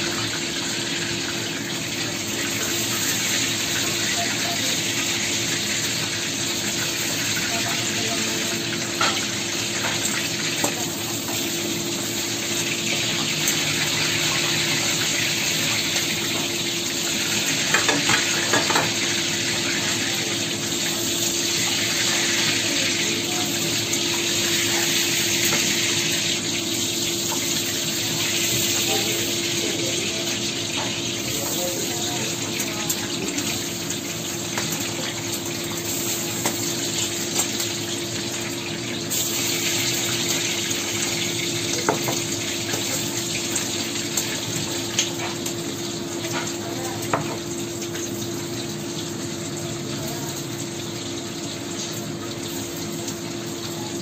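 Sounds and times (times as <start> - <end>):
prawns sizzling in hot oil: 0.0 - 54.0.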